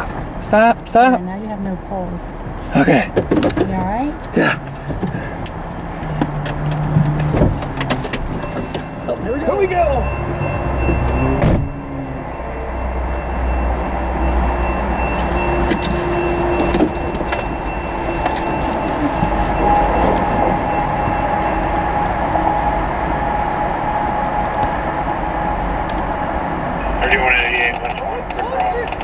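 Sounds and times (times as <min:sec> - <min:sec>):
vehicle noise: 0:00.0 - 0:29.0.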